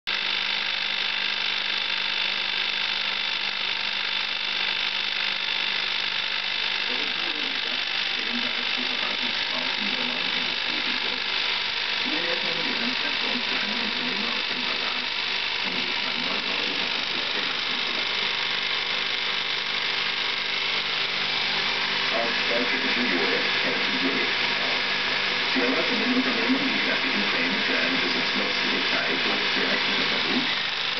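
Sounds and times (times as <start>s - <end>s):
film projector whirring: 0.1s - 30.9s.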